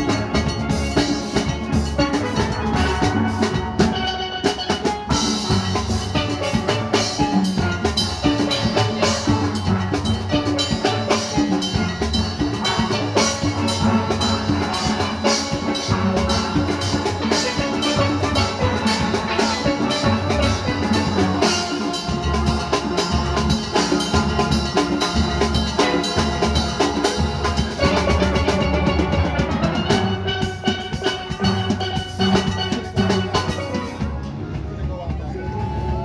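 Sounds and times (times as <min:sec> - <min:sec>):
steel band playing: 0:00.0 - 0:36.0.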